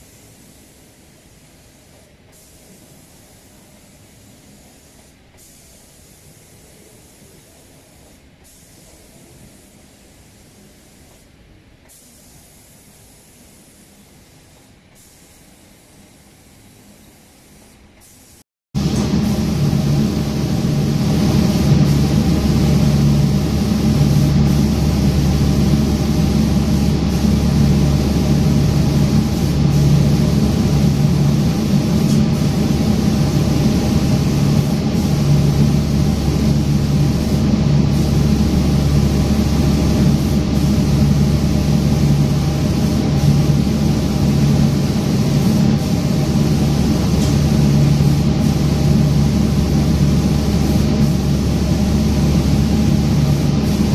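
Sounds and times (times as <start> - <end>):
spray gun hissing: 0.0 - 11.3, 11.9 - 53.9
machine mechanical hum: 0.0 - 53.9.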